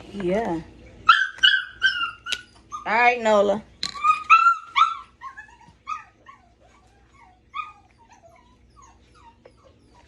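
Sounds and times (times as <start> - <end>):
puppies whining and yipping: 1.0 - 3.2, 3.8 - 10.0.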